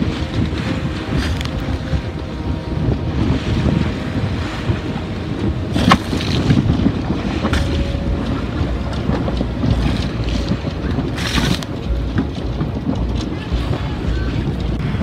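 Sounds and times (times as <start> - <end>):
sea wash: 0.0 - 15.0
wind buffeting microphone: 0.0 - 15.0.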